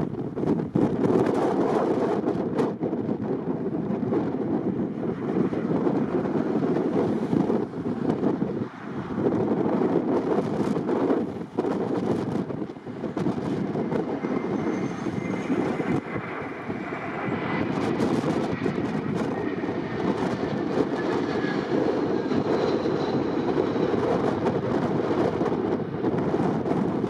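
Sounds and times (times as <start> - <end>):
jet plane passing overhead: 0.0 - 27.0.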